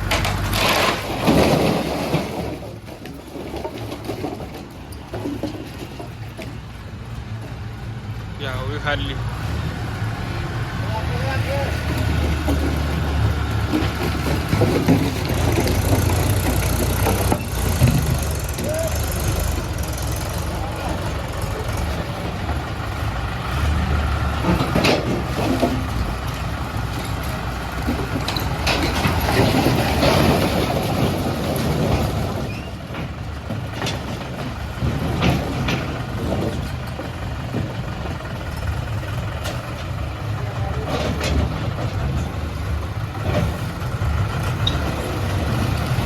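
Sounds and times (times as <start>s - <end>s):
tractor diesel engine running: 0.0s - 1.5s, 2.4s - 46.0s.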